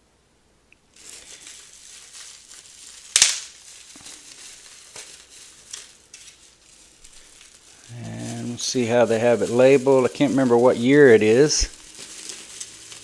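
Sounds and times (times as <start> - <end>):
plastic wrap crinkling: 0.8 - 13.0.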